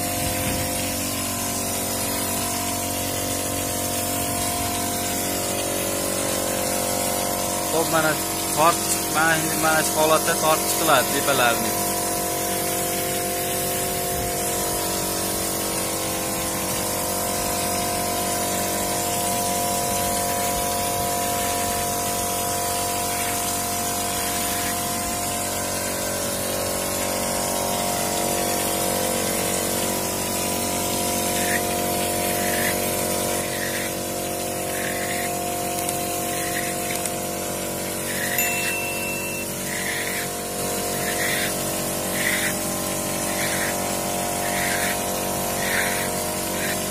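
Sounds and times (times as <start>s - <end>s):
constant machine hum: 0.0s - 46.9s
spray gun spurts: 0.1s - 46.9s.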